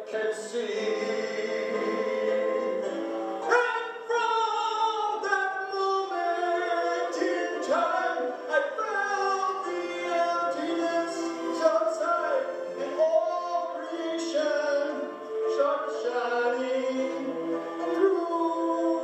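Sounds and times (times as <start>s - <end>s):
man singing into microphone: 0.0s - 2.7s, 3.4s - 19.0s.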